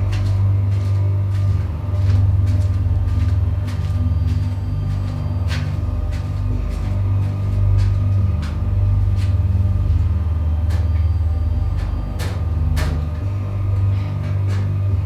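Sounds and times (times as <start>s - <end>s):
low droning scary music: 0.0s - 15.0s.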